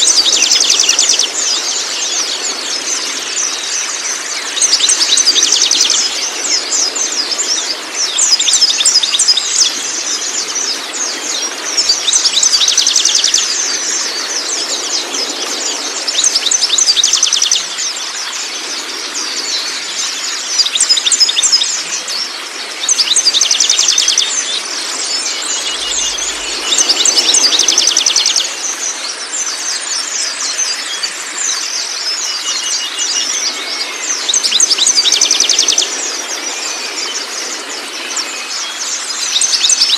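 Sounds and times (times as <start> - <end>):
running water hiss: 0.0 - 39.9
songbirds twittering: 0.0 - 39.9.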